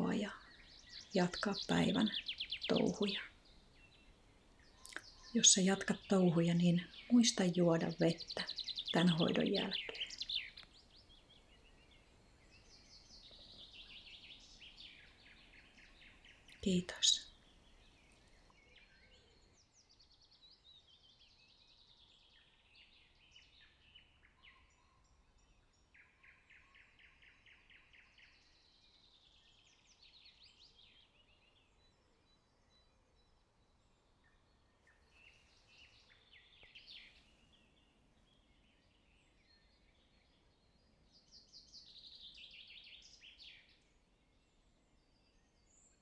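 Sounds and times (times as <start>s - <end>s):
birds chirping and trilling: 0.0s - 46.0s.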